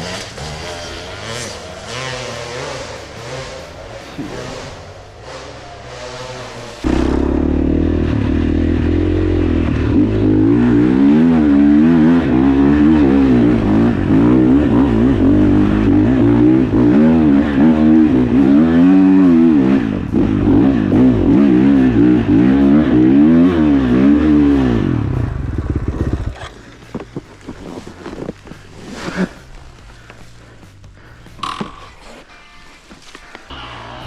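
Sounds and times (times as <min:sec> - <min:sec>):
motocross bike engine revving: 0:00.0 - 0:27.8, 0:33.5 - 0:34.0.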